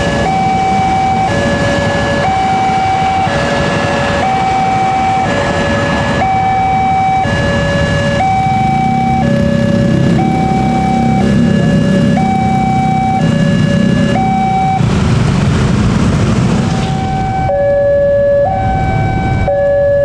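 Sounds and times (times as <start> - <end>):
level crossing alarm two-tone: 0.0 - 14.8, 16.9 - 20.0
electric train rumbling past: 0.0 - 19.6.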